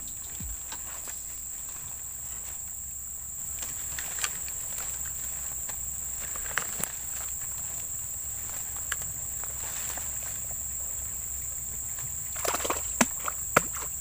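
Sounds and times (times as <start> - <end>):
high-pitched insect drone: 0.0 - 14.0
rustling of grass and leaves: 0.0 - 14.0.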